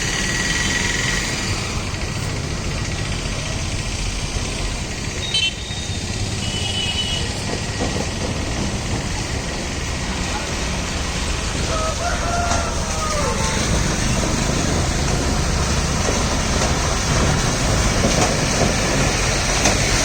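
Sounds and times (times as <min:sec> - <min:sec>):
lorry diesel engine running: 0:00.0 - 0:20.0.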